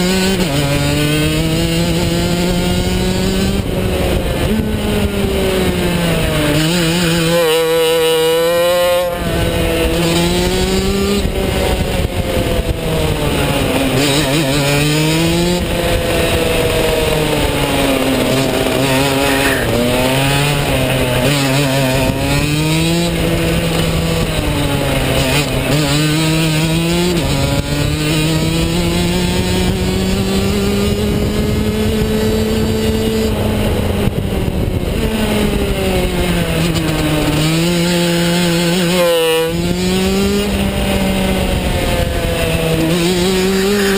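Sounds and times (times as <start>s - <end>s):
kart engine revving: 0.0s - 43.9s.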